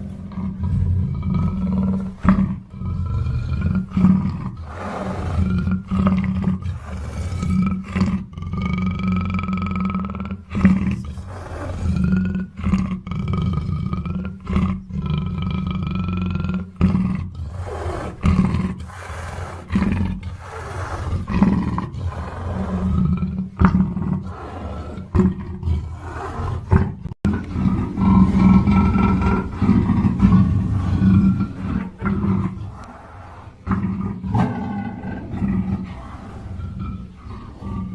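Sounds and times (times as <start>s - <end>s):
big cat roaring and growling: 0.0s - 37.9s.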